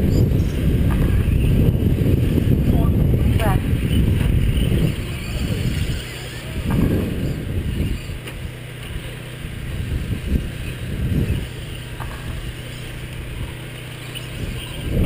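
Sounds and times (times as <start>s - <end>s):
radio-controlled truck motors: 0.1s - 15.0s.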